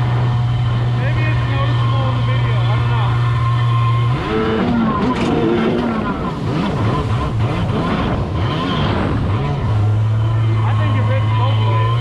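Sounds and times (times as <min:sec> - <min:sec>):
jet ski engine revving: 0:00.0 - 0:12.0.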